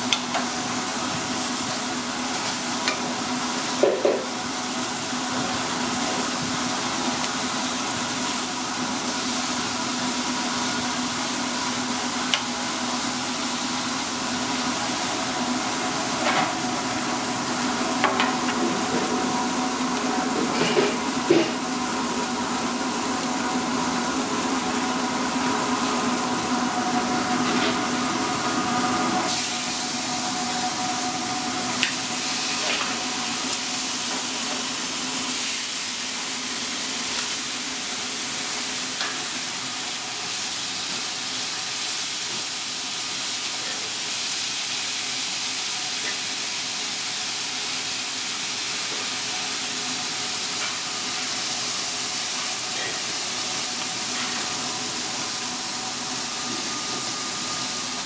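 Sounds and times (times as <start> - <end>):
steak sizzling on a grill: 0.0 - 58.0.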